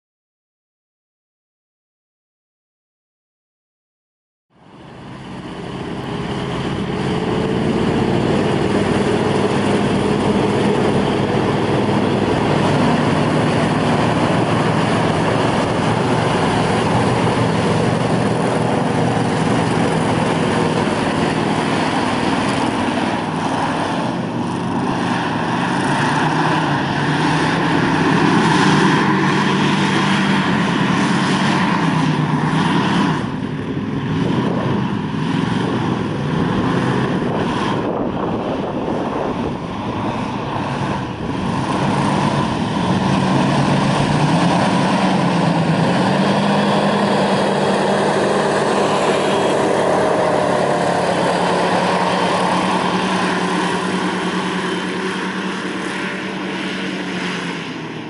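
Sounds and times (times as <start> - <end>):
hovercraft engine droning: 4.5 - 58.0.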